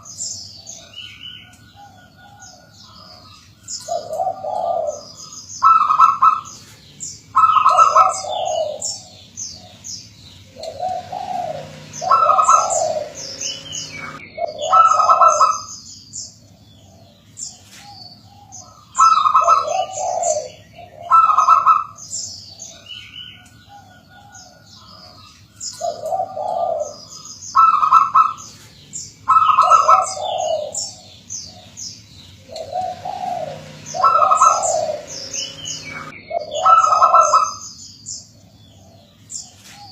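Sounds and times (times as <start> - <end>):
dove cooing: 0.0 - 15.8, 16.4 - 39.9.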